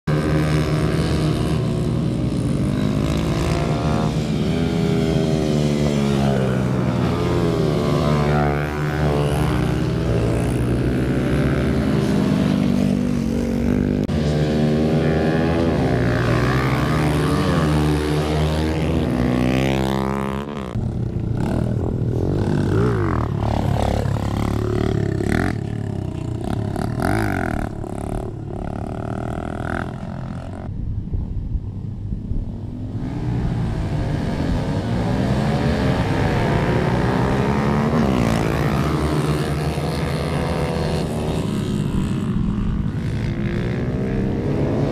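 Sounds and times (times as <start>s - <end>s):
mini motorcycle engines revving: 0.1s - 30.7s, 32.7s - 44.9s.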